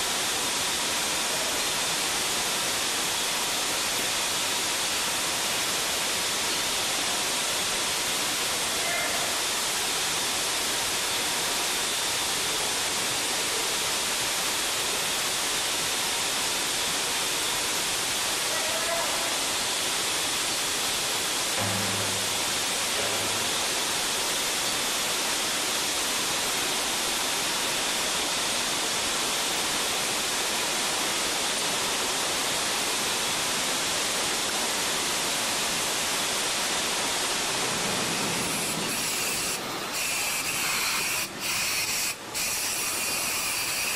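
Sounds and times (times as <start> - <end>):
fire hose spraying water: 0.0 - 43.9.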